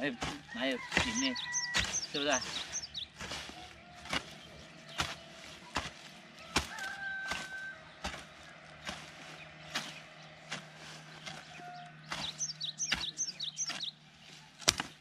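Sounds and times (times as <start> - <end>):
hoe chopping into soil: 0.0 - 13.9, 14.5 - 15.0.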